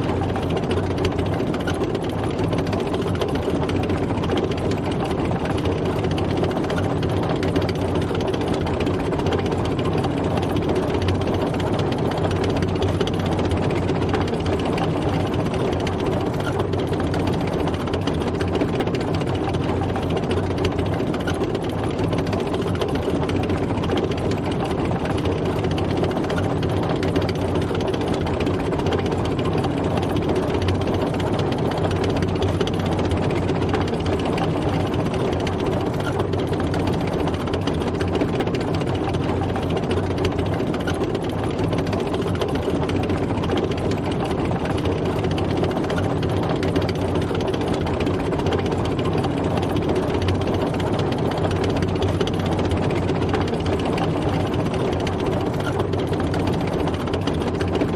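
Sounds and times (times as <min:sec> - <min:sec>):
mechanical clatter: 0:00.0 - 0:57.9
tank engine running: 0:00.0 - 0:57.9.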